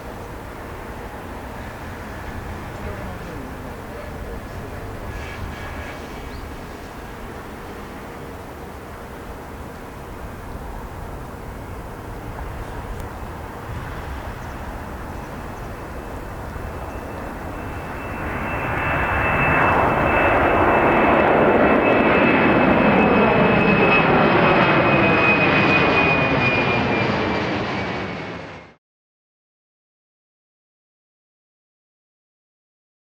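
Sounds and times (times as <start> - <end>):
high turbine whine: 0.0 - 28.8
jet airliner passing overhead: 0.0 - 28.8.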